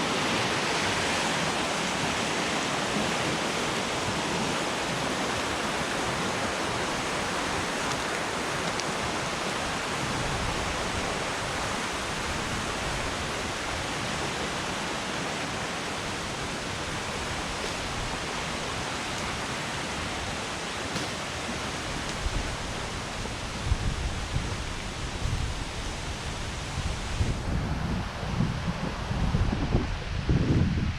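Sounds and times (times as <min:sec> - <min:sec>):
river current rushing: 0:00.0 - 0:30.2.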